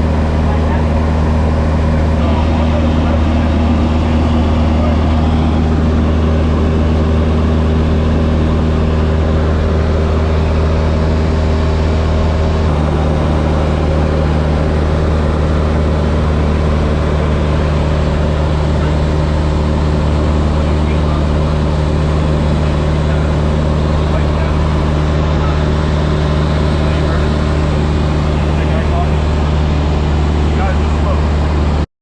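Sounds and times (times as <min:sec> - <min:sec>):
propeller airplane engine drone: 0:00.0 - 0:31.9.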